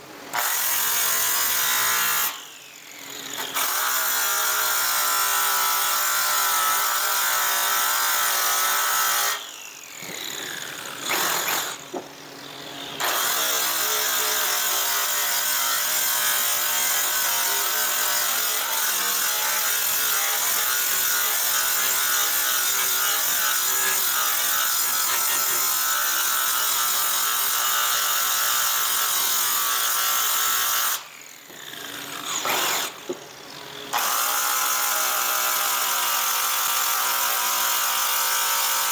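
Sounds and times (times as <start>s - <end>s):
electric sander on metal: 3.2s - 38.9s.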